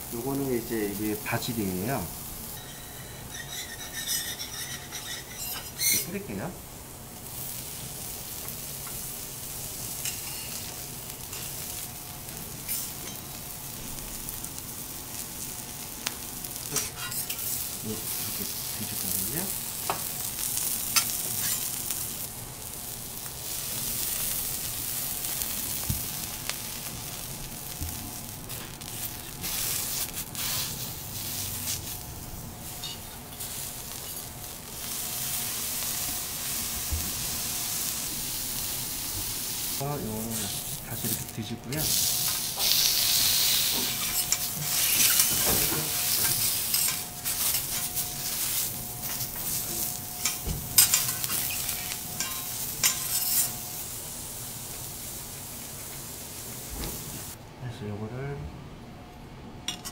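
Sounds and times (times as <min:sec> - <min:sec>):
food sizzling in oil: 0:00.0 - 0:57.4.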